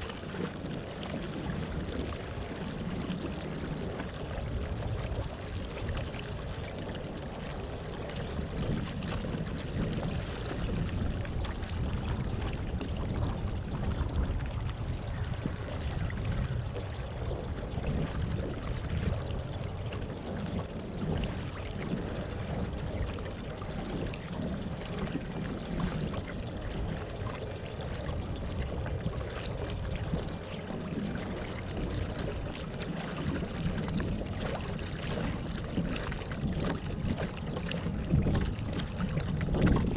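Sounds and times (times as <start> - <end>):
low rumble: 0.0 - 39.9
water splashing and gurgling: 0.0 - 39.9.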